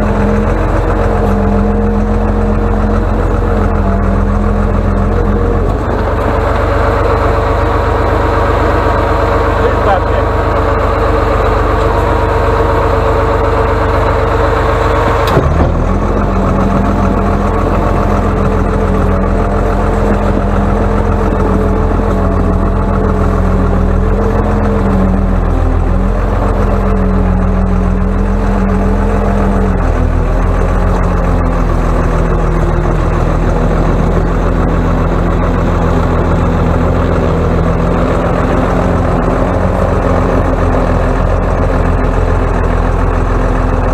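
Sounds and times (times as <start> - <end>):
excavator diesel engine under load: 0.0 - 43.9.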